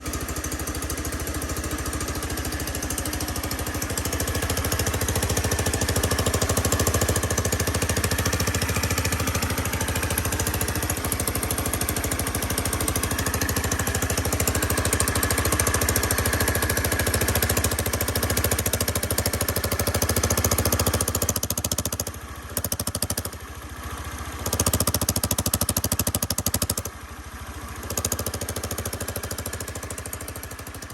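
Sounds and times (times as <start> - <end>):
moped engine knocking rattle: 0.0 - 30.9.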